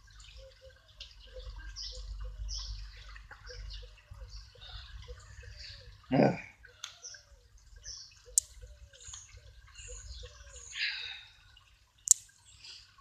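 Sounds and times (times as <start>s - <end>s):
rain drops plinking: 0.0s - 13.0s.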